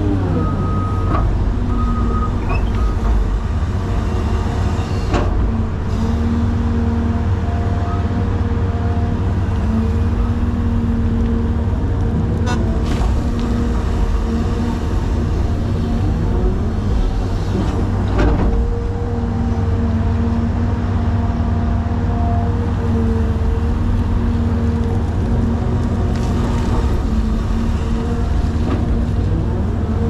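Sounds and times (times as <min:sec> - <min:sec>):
diesel engine drone: 0:00.0 - 0:30.0.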